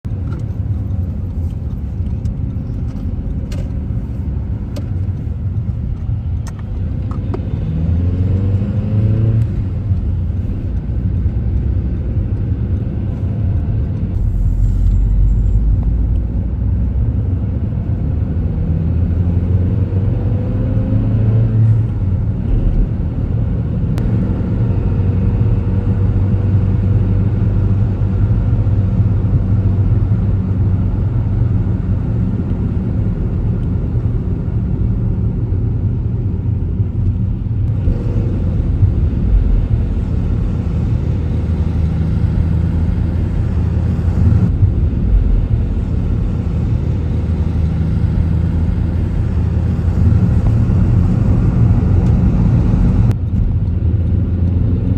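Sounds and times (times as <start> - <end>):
road rumble: 0.0 - 54.9
car engine accelerating: 0.1 - 54.9.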